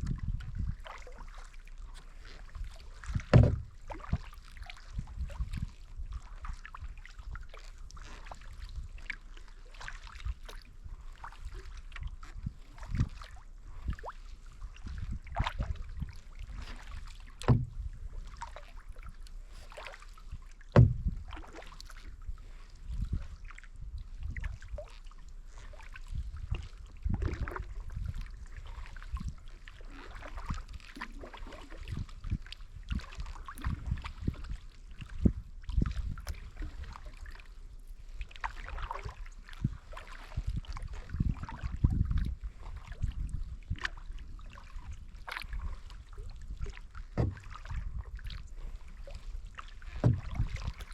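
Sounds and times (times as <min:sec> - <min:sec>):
paddle splashing in water: 0:00.0 - 0:50.9.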